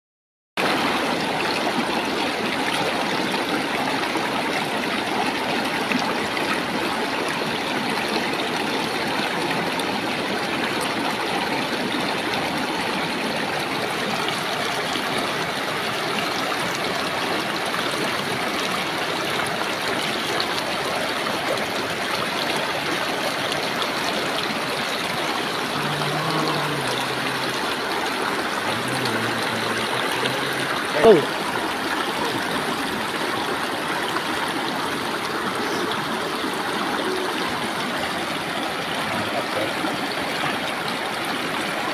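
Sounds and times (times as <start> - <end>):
river rushing over stones: 0.6 - 41.9.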